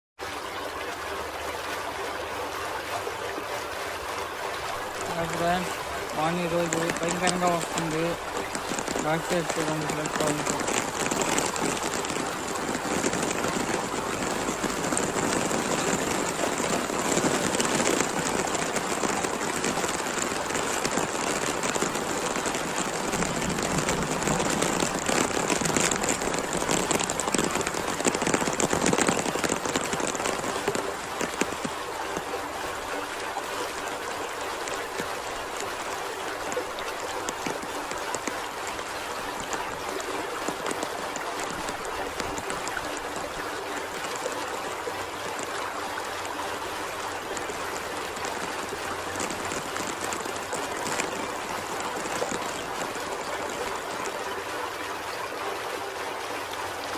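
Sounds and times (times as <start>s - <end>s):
heavy rain pouring: 0.2s - 56.9s.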